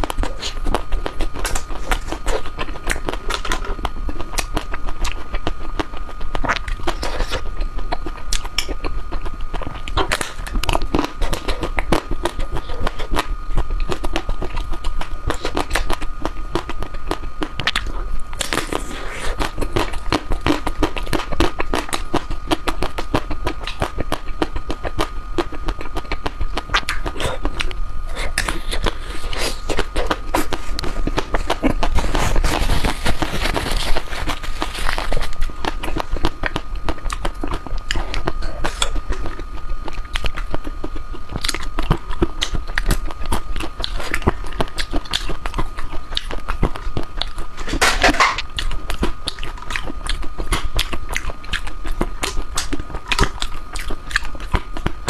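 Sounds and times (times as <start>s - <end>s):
eating ice cream clicks and crackles: 0.0s - 55.0s
low hum: 0.0s - 55.0s.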